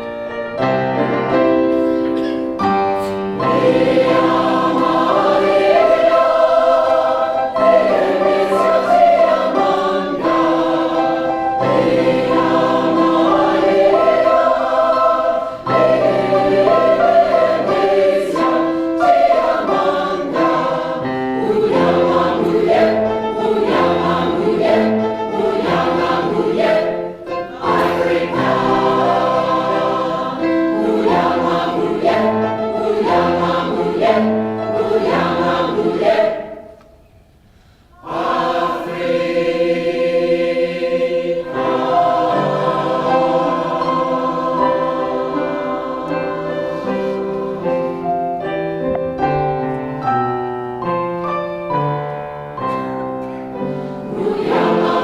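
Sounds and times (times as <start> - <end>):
choir singing in harmony: 0.0 - 50.4, 51.2 - 55.0.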